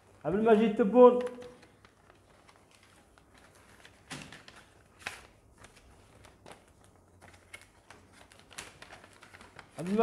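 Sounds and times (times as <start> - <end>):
paper rustling and clicks: 0.0 - 10.0.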